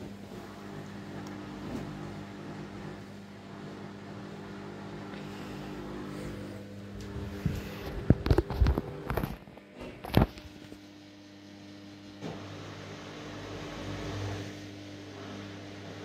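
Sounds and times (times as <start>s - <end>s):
washing machine humming: 0.0s - 16.0s.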